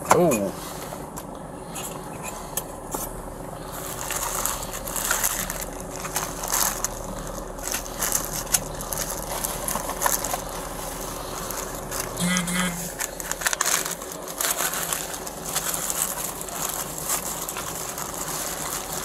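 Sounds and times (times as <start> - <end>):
rustling and crinkling: 0.5 - 19.0.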